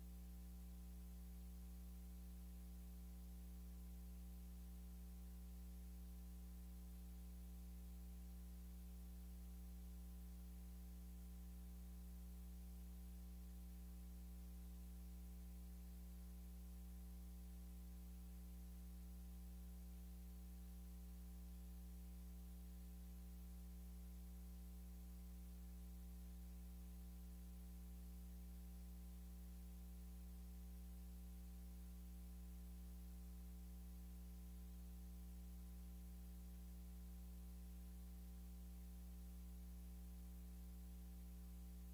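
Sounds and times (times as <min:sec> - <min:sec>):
faint hiss: 0:00.0 - 0:41.9
low electrical mains hum: 0:00.0 - 0:41.9.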